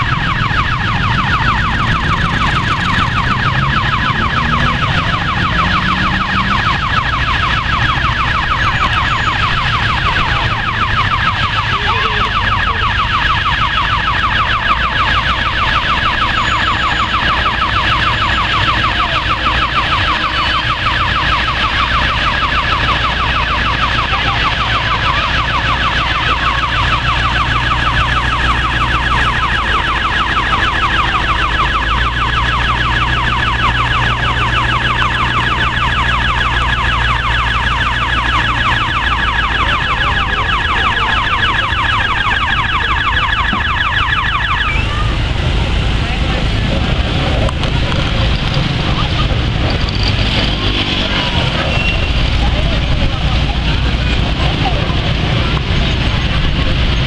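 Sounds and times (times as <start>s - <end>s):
level crossing warning siren: 0.0s - 57.0s.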